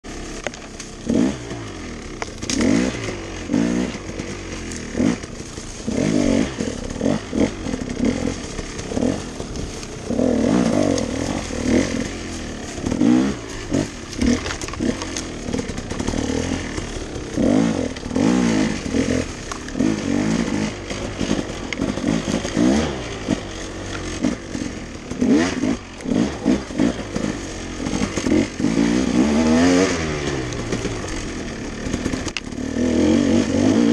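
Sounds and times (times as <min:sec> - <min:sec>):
dirt bike engine revving: 0:00.1 - 0:33.9.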